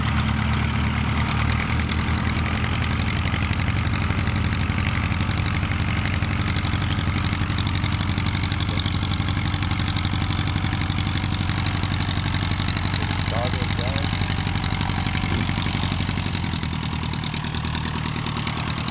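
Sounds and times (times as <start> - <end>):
aircraft piston engine idling: 0.0 - 18.9.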